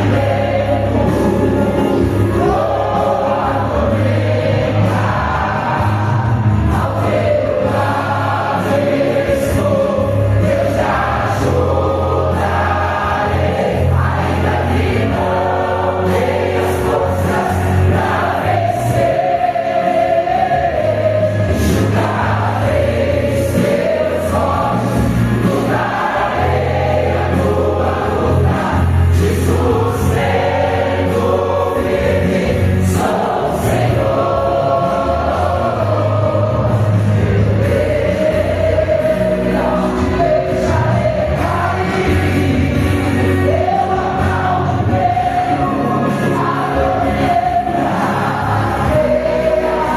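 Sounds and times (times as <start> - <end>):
choir singing a hymn: 0.0 - 49.9
sustained bass notes: 0.0 - 49.9.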